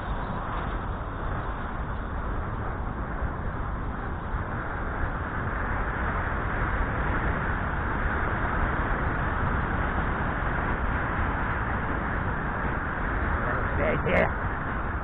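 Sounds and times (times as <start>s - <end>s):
road noise: 0.0s - 15.0s
wind on microphone: 0.0s - 15.0s.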